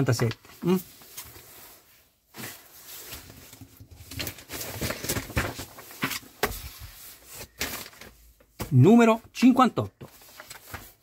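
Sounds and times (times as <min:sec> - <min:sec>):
magazine rustling: 0:00.0 - 0:08.9, 0:10.0 - 0:11.0.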